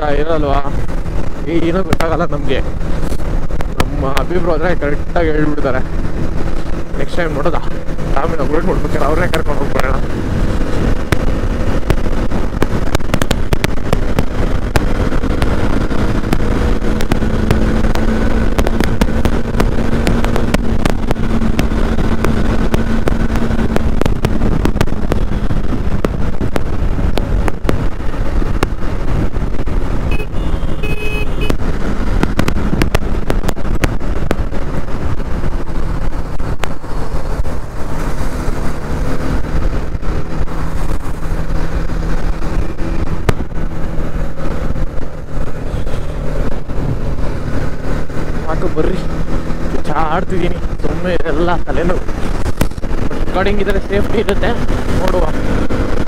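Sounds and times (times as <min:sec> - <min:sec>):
motorcycle engine hum: 0:00.0 - 0:56.0
wind rushing on microphone: 0:00.0 - 0:56.0.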